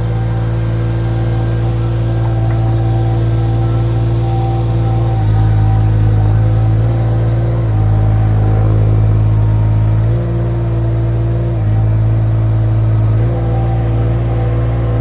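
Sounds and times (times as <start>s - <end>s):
small engine running hard: 0.0s - 15.0s.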